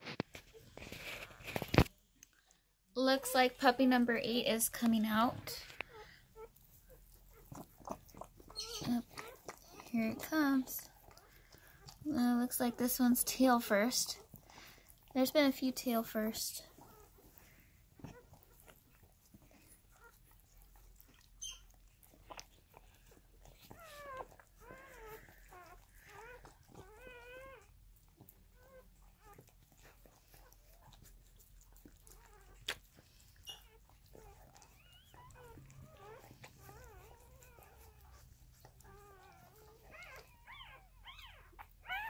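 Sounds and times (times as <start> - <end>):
puppies crying: 5.1 - 42.0.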